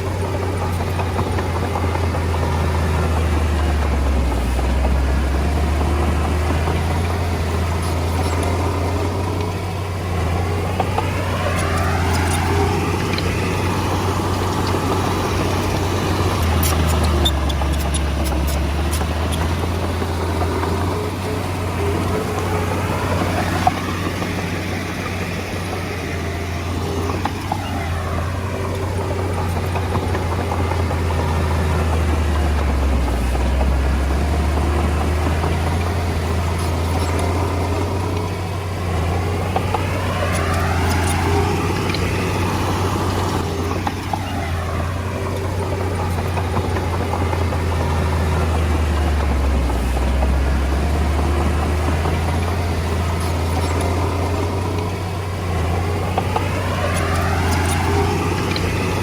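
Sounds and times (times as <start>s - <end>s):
bulldozer diesel engine running: 0.0s - 59.0s
light clicks and clatters: 0.0s - 59.0s.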